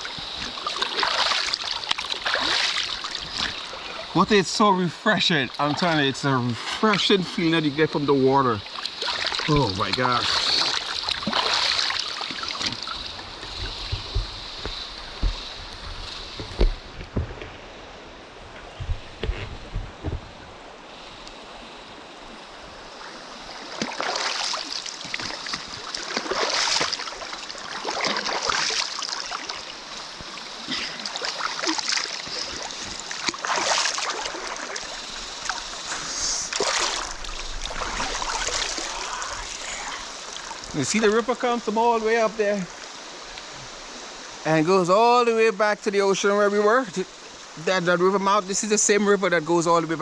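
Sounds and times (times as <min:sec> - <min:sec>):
water splashing: 0:00.0 - 0:17.7, 0:22.0 - 0:50.0
river water flowing: 0:00.0 - 0:50.0.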